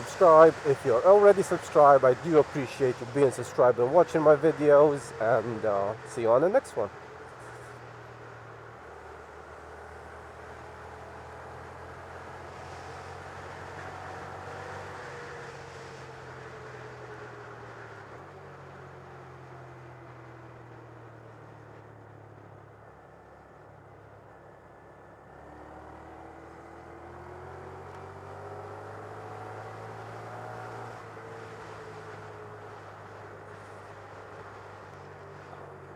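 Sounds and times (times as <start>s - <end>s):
wind and road noise: 0.0s - 35.9s.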